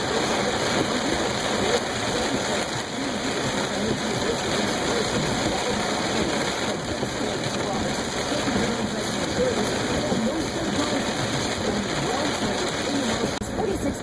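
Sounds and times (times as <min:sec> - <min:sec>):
heavy rain: 0:00.0 - 0:14.0
running water rushing: 0:00.0 - 0:14.0.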